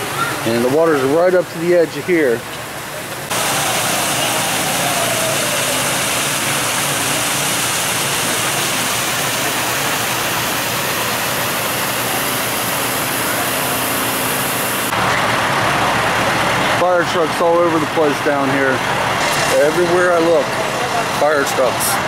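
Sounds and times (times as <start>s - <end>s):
engine running: 0.0s - 22.0s
water gushing from hose: 0.0s - 22.0s.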